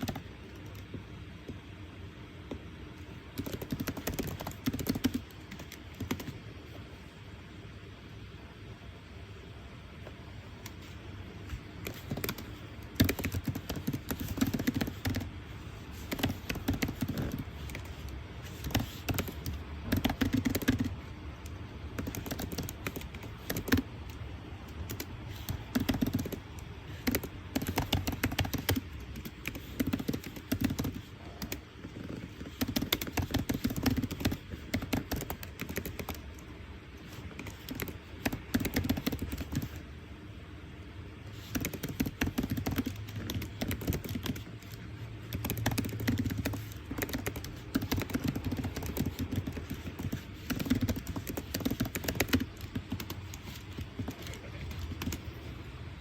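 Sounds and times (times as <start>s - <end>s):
rapid clicks and taps at a desk: 0.0s - 1.8s, 2.4s - 6.9s, 10.0s - 39.9s, 41.2s - 55.5s.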